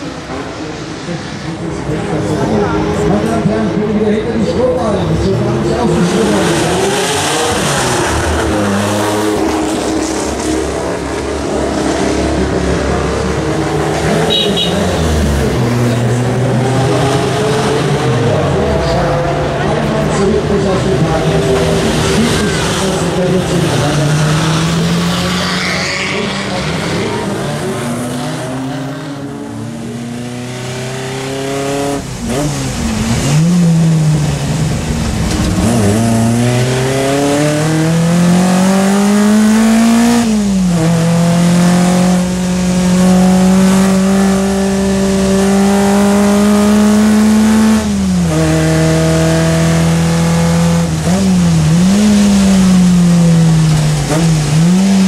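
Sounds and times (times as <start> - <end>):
car engine revving through gears: 5.1 - 55.0.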